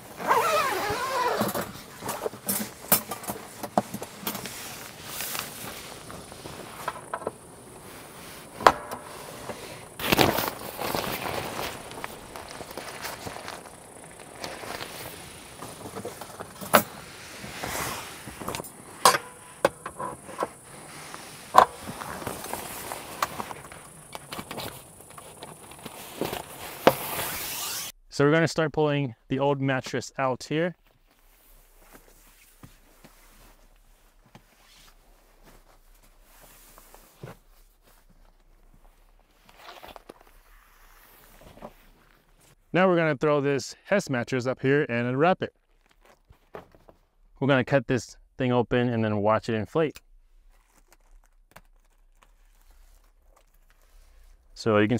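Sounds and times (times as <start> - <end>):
nylon fabric rustling: 0.0 - 28.0, 30.8 - 42.6, 50.3 - 54.6.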